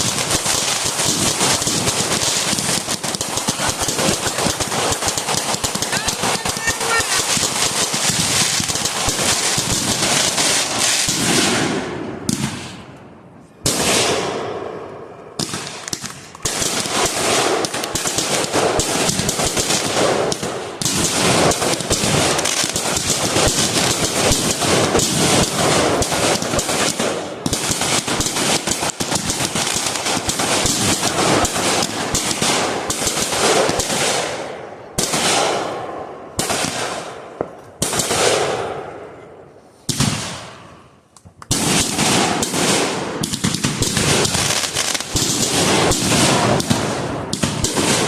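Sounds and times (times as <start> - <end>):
fireworks crackling bangs: 0.0 - 12.9, 13.6 - 14.8, 15.4 - 39.2, 39.8 - 48.0.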